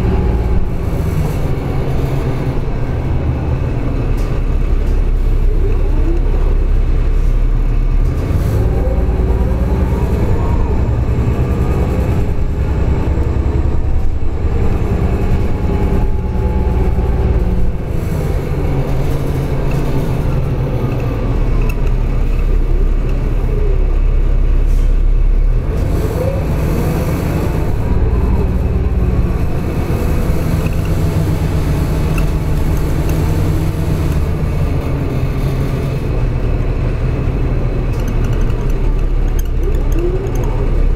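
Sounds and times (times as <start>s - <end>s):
bus engine rumble: 0.0s - 40.9s
road noise: 0.0s - 40.9s.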